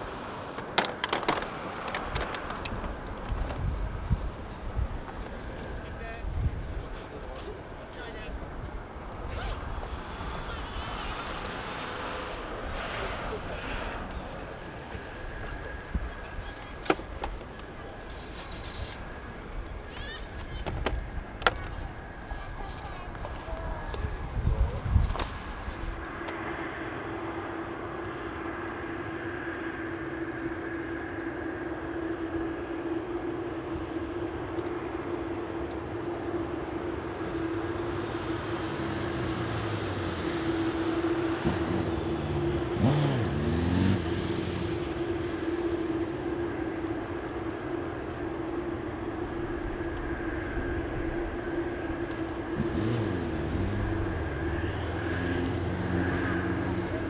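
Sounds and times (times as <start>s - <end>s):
jet plane passing: 0.0s - 57.0s.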